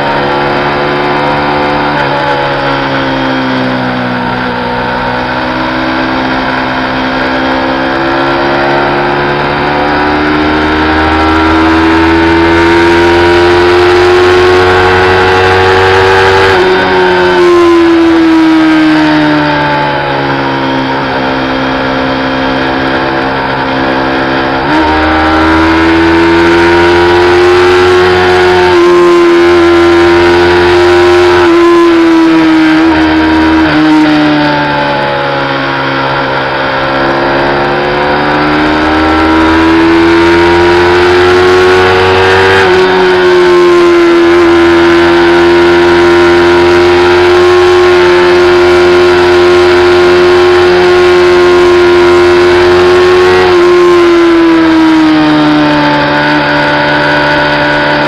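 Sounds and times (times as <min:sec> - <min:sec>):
motorcycle engine revving high: 0:00.0 - 0:58.0.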